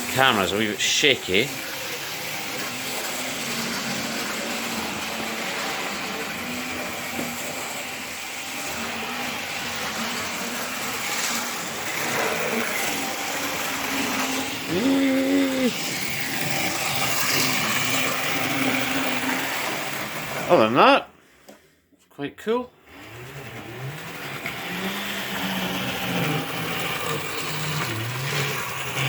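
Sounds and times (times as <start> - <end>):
wheels rattling on rails: 0.0 - 20.5, 22.9 - 29.0
model train motor whirring: 0.0 - 20.6, 22.8 - 29.0.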